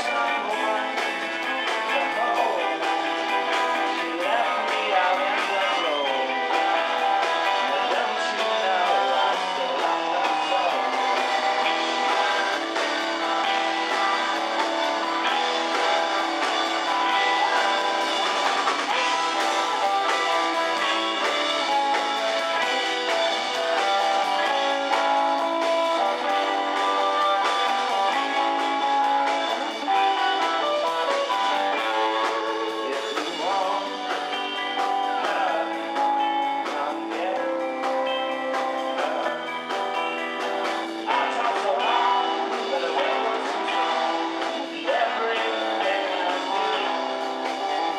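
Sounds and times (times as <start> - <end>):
rock and roll band playing: 0.0 - 47.9.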